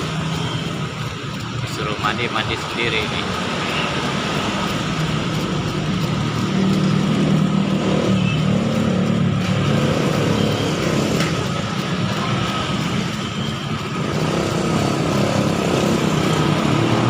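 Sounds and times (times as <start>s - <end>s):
motor engine running: 0.0s - 17.0s.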